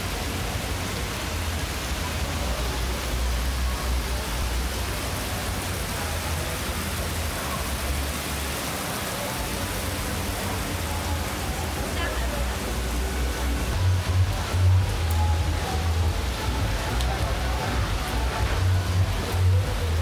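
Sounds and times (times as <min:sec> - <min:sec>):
rain on wet paving: 0:00.0 - 0:20.0.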